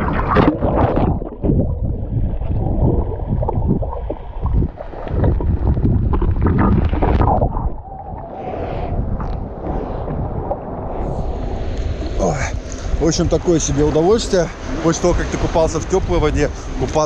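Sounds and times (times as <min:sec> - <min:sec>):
underwater gurgling: 0:00.0 - 0:16.2
sea water splashing: 0:00.0 - 0:17.0.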